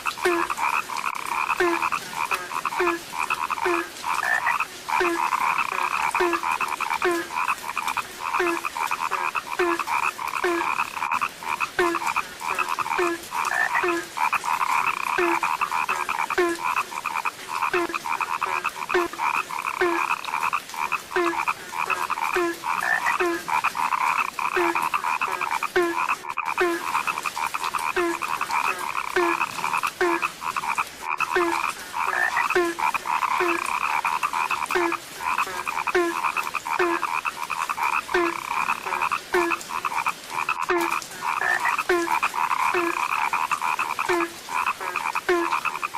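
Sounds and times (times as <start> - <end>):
frog chorus: 0.0 - 45.9
low frog croak: 0.0 - 45.9.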